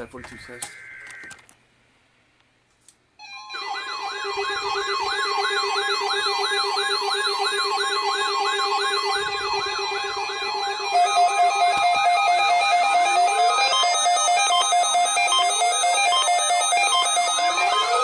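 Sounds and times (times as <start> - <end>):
loud steady alarm tone: 3.2 - 18.0
warbling siren tone: 3.2 - 18.0.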